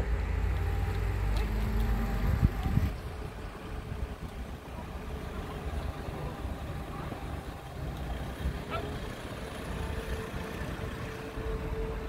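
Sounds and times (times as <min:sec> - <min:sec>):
distant traffic: 0:00.0 - 0:12.0
vehicle engine humming: 0:00.0 - 0:12.0.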